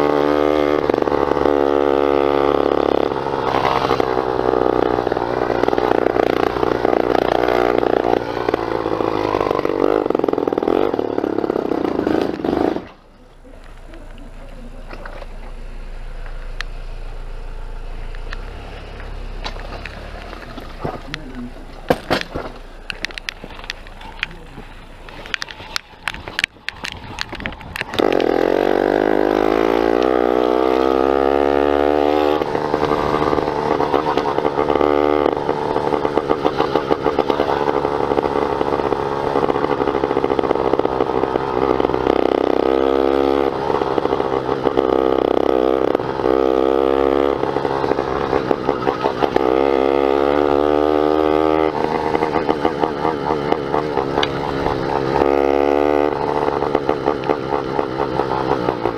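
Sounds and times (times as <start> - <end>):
two-stroke engine clattering: 0.0 - 17.4, 18.0 - 58.9.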